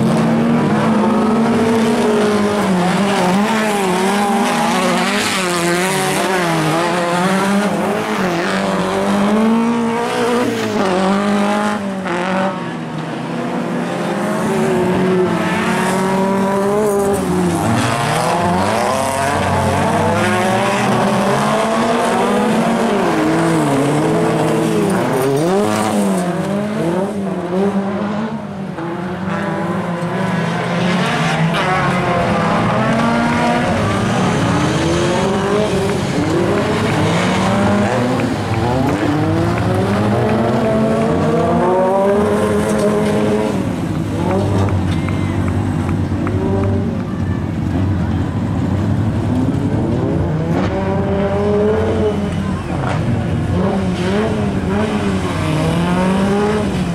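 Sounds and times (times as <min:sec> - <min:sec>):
racing car engines revving: 0:00.0 - 0:56.9.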